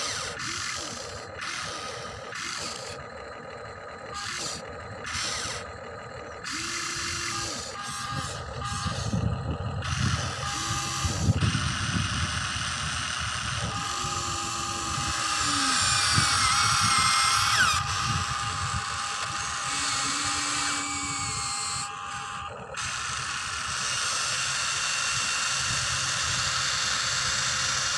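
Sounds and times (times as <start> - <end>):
toy excavator motors whirring: 0.0 - 27.9.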